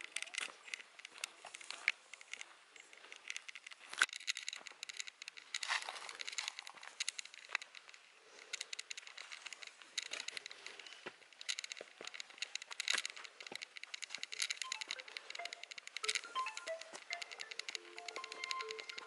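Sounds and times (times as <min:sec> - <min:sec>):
footsteps on dry leaves and stones: 0:00.0 - 0:18.8.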